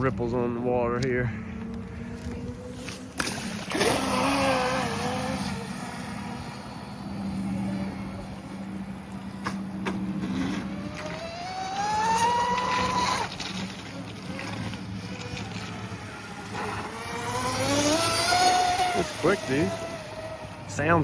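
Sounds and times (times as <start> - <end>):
electric boat motor whine: 1.3 - 21.0.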